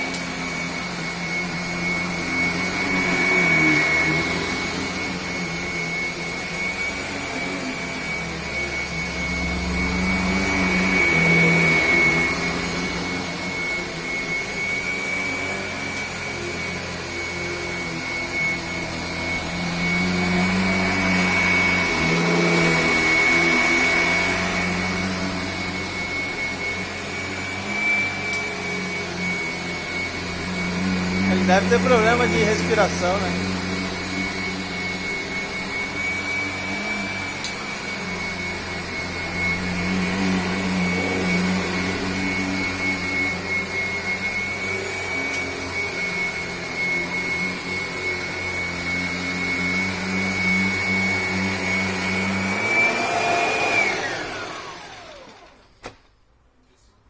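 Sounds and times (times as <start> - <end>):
vacuum cleaner whining: 0.0 - 56.3.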